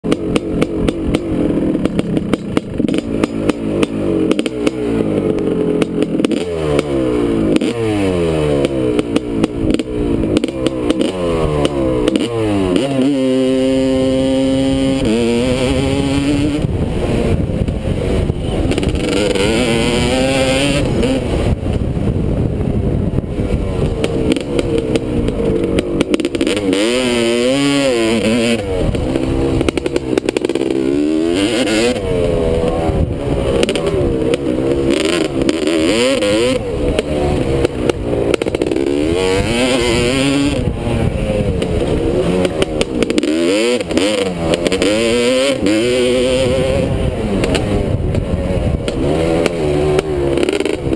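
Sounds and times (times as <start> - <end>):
motorbike engine revving: 0.0 - 50.9
wind buffeting microphone: 0.4 - 50.9.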